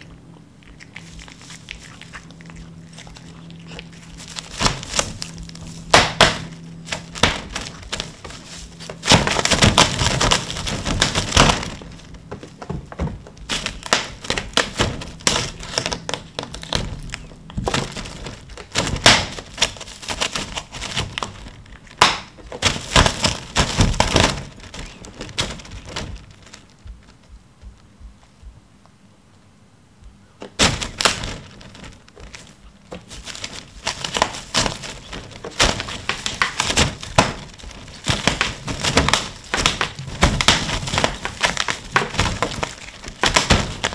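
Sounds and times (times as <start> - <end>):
plastic film crinkling: 0.7 - 27.4, 30.5 - 43.9.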